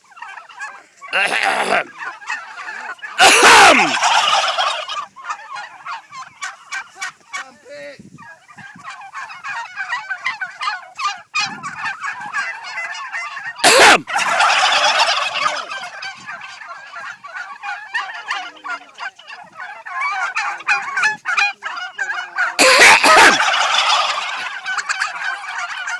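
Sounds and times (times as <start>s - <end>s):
turkeys gobbling: 0.0s - 7.6s, 8.2s - 25.9s.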